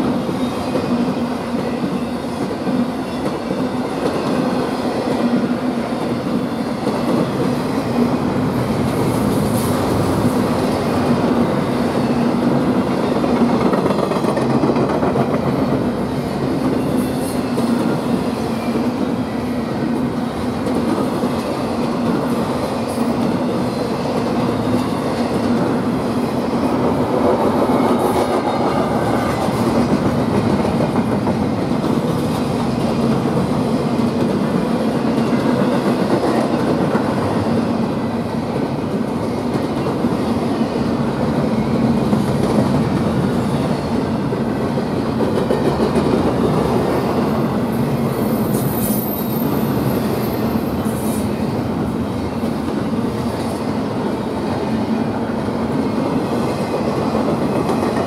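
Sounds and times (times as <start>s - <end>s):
clickety-clack of rail joints: 0.0s - 58.0s
train wheels rolling on rails: 0.0s - 58.0s.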